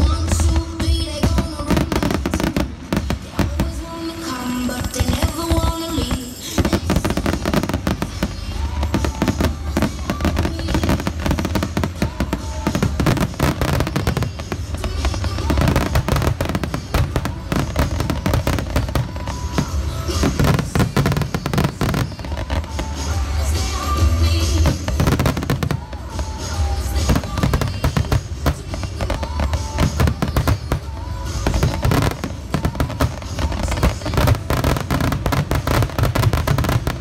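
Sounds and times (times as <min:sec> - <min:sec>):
fireworks crackling: 0:00.0 - 0:37.0.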